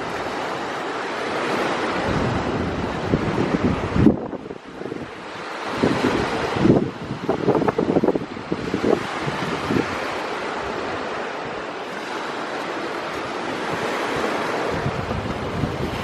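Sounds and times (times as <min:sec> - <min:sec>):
sea surf washing: 0:00.0 - 0:16.0
wind gusting over microphone: 0:00.0 - 0:16.0.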